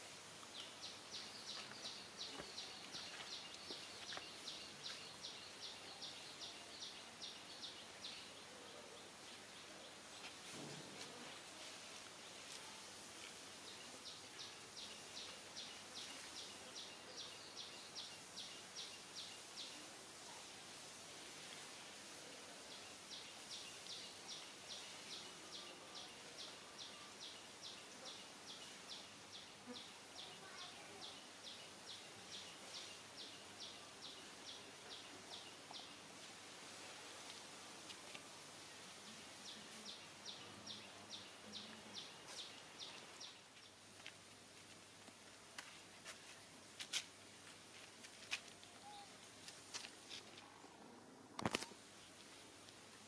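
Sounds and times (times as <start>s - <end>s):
outdoor background hiss: 0.0s - 53.0s.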